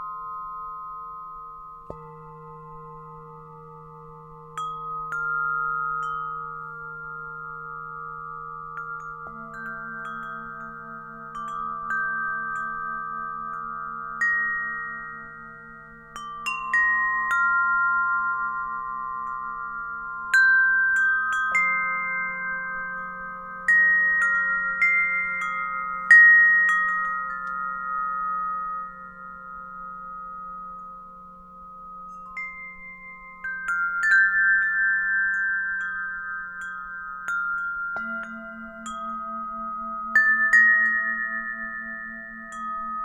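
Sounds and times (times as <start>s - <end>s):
wind chimes ringing: 0.0s - 43.0s.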